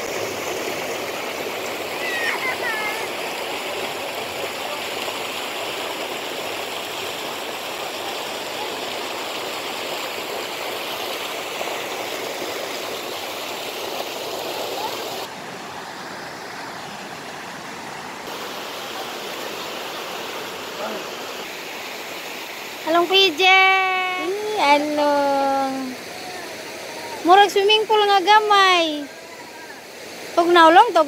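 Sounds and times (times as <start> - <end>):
creek flowing over rocks: 0.0 - 31.0.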